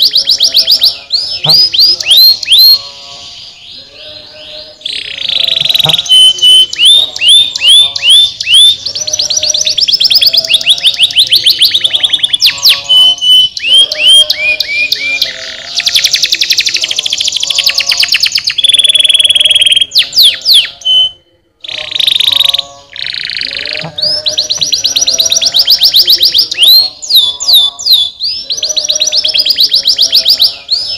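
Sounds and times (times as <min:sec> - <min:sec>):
canary singing rapid trills: 0:00.0 - 0:30.9.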